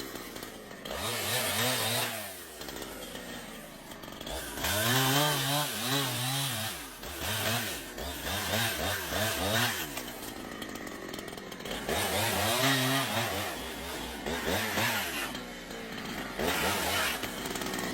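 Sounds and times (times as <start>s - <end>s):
chainsaw engine revving: 0.0s - 17.9s.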